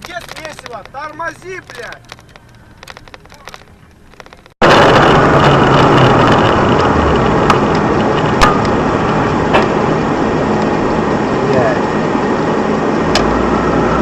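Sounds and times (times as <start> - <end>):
vehicle noise with low hum: 0.0 - 14.0.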